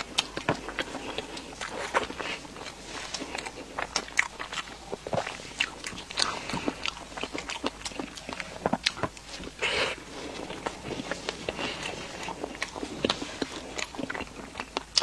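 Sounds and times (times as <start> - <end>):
person chewing pastry: 0.0 - 15.0.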